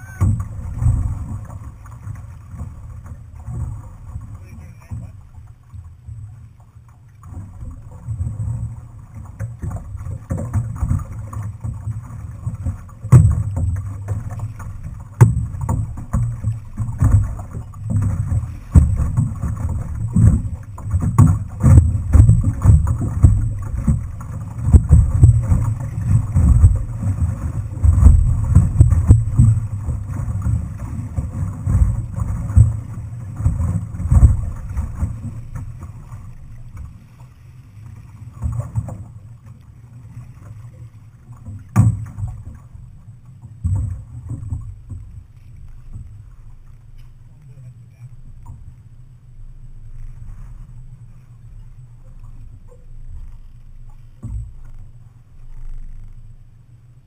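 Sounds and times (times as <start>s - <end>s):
water sloshing: 0.0s - 56.5s
paddle strokes: 0.0s - 57.0s
wind rumble on microphone: 0.0s - 57.0s.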